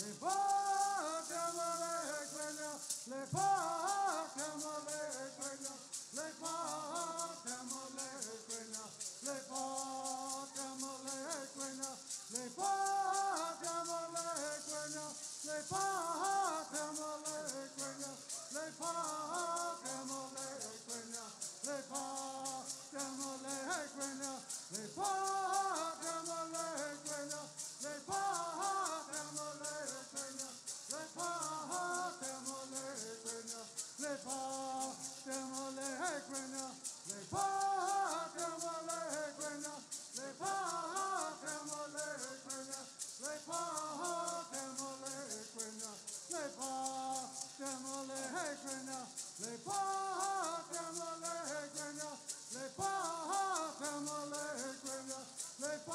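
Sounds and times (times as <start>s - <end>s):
gourd rattles shaking: 0.0s - 55.9s
men singing in unison: 0.0s - 55.9s.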